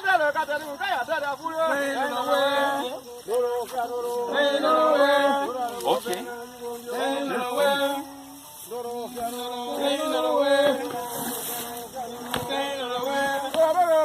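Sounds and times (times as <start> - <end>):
people singing a work chant: 0.0 - 14.0.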